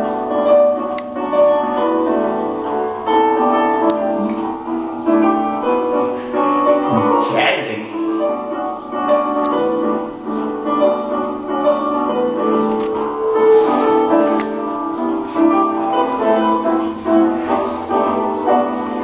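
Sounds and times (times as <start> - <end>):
jazzy piano music: 0.0 - 19.0.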